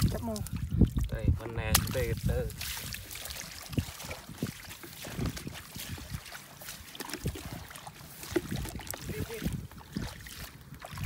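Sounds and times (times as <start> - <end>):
water trickling: 0.0 - 11.0
barefoot steps in mud: 1.7 - 11.0.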